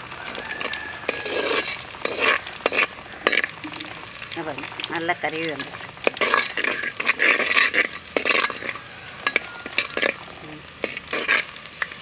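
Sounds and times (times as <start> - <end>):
ladle stirring in a pot: 0.0 - 12.0
onions sizzling in hot oil: 0.0 - 12.0.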